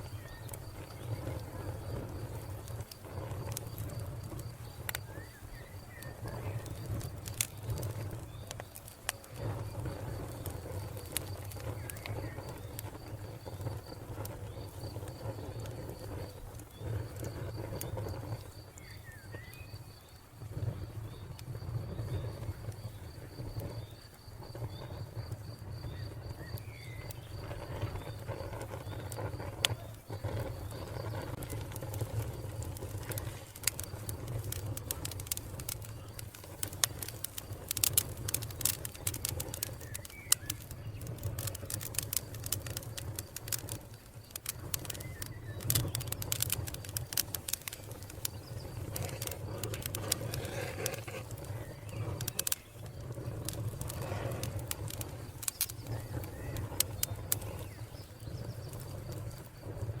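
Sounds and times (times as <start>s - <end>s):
fire popping and snapping: 0.0s - 60.0s
low rumble of flames: 0.0s - 60.0s.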